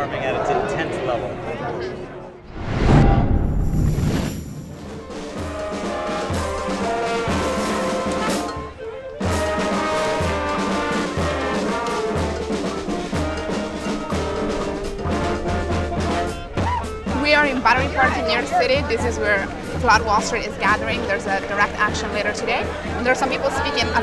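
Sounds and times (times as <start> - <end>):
brass band music: 4.6 - 24.0.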